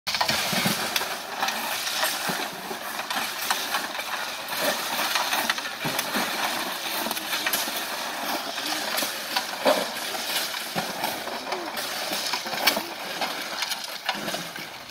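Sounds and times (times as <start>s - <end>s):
gravel rattling and sliding: 0.1s - 14.9s.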